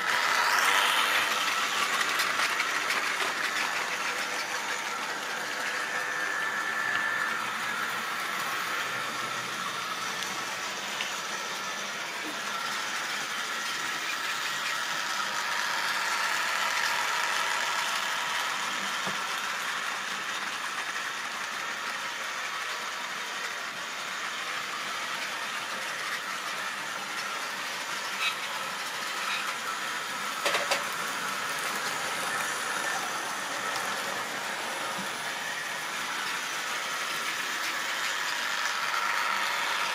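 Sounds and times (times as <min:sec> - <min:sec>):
model train motor whine: 0:00.0 - 0:39.9
wheels on rails: 0:00.0 - 0:39.9.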